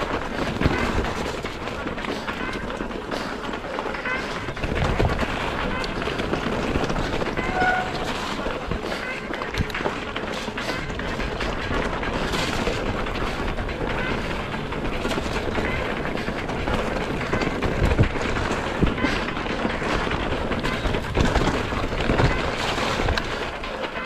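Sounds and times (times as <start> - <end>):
bike rattling over bumps: 0.0 - 24.0
wind and tyre noise: 0.0 - 24.0.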